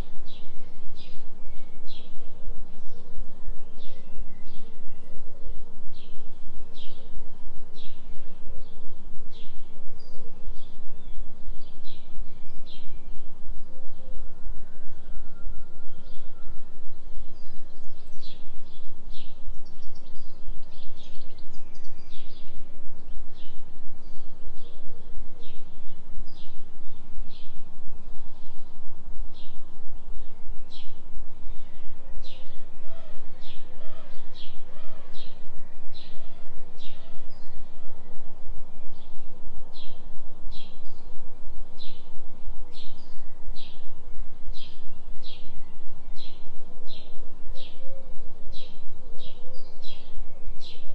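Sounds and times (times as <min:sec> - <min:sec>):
pulsing low binaural tone: 0:00.0 - 0:50.9
songbird chirping: 0:00.0 - 0:50.9.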